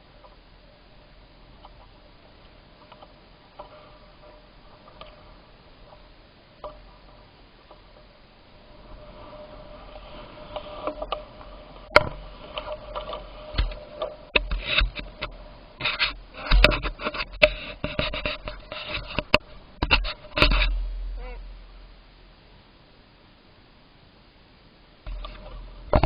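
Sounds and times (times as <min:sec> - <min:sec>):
bicycle rattling over bumps: 0:01.3 - 0:22.0, 0:25.1 - 0:26.0.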